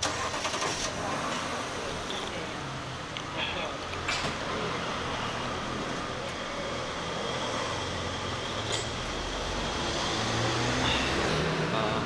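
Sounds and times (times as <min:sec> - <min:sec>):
heavy vehicle engine rumble: 0:00.0 - 0:12.0
road traffic noise: 0:00.0 - 0:12.0.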